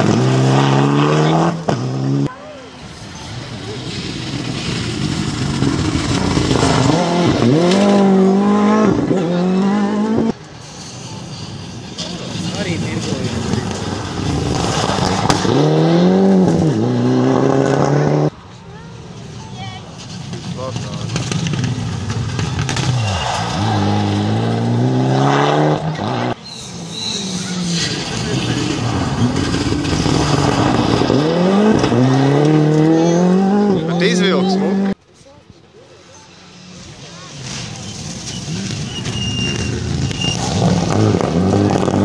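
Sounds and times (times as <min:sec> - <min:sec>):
rally car engine accelerating: 0:00.0 - 0:02.3, 0:03.6 - 0:10.4, 0:12.3 - 0:18.3, 0:20.8 - 0:35.0, 0:36.4 - 0:42.0.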